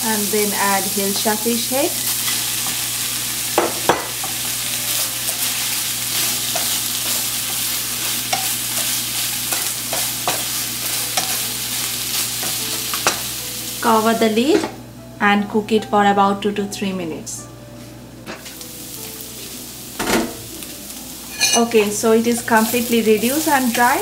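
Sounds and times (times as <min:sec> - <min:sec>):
food sizzling in a pan: 0:00.0 - 0:14.7, 0:18.4 - 0:24.0.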